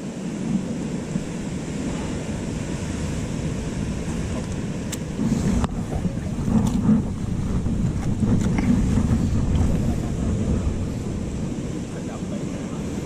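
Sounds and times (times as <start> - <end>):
sea waves on rocks: 0.0 - 13.0
wind buffeting microphone: 0.0 - 13.0.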